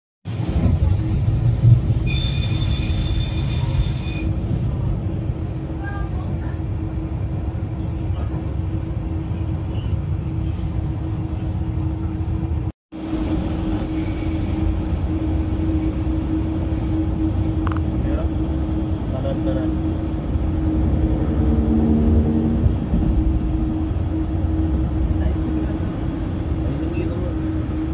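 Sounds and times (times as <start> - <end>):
train wheels rumbling on track: 0.3 - 27.9
constant hum: 5.4 - 27.9.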